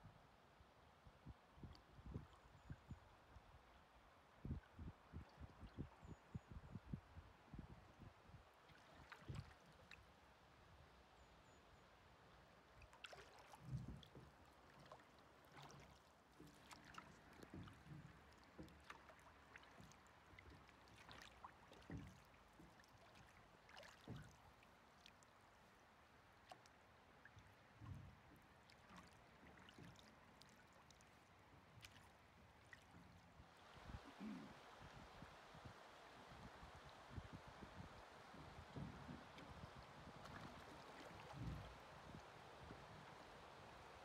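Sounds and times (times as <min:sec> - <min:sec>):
river water lapping against hull: 0:01.5 - 0:44.0.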